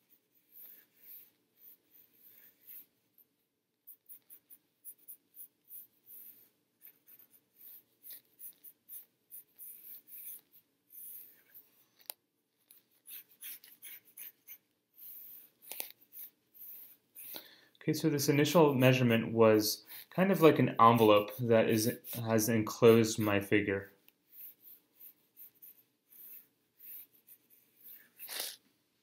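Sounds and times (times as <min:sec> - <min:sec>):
pencil sketching on paper: 0:00.0 - 0:17.4, 0:18.3 - 0:23.3, 0:24.1 - 0:28.6.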